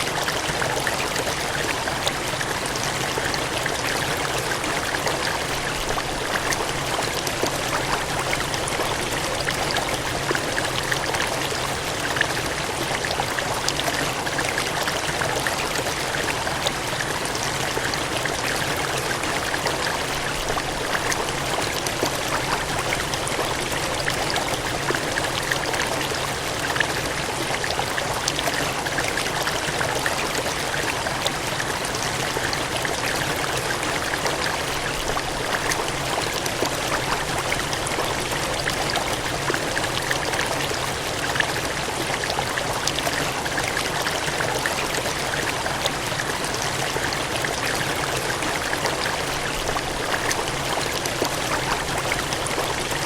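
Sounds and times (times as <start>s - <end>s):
cascading water gushing: 0.0s - 53.0s
small water splashes: 0.0s - 53.0s.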